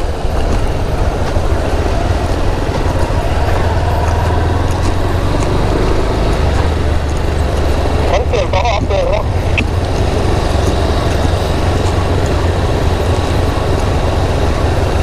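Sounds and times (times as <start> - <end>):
low wind rumble: 0.0 - 15.0
motorcycle engine hum: 0.0 - 15.0.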